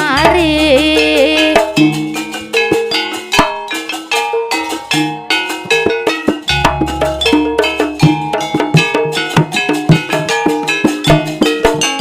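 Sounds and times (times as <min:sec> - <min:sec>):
drum strokes: 0:00.0 - 0:12.0
bronze gong-chimes and metallophones: 0:01.1 - 0:12.0.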